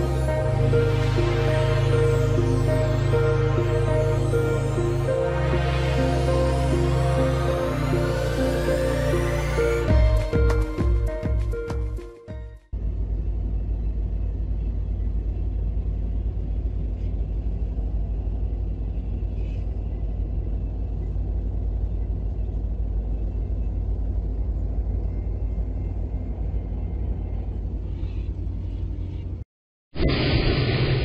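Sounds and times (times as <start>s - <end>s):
vehicle rumble from inside cab: 0.0s - 12.0s, 12.7s - 29.5s.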